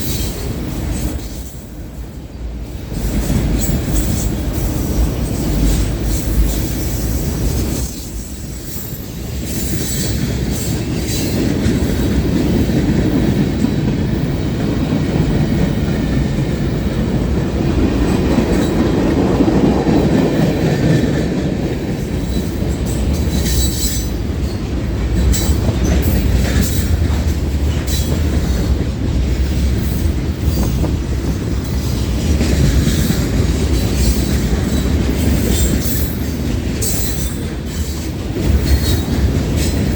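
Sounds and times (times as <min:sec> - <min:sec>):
freight train wheels rumbling: 0:00.0 - 0:39.9
train clicking and clatter: 0:00.0 - 0:39.9.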